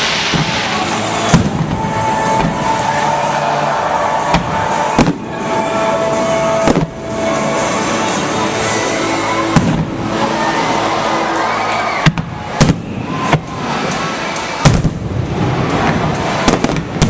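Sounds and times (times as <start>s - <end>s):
fireworks bangs: 0.0s - 10.6s, 12.0s - 17.0s
music playing: 0.0s - 17.0s.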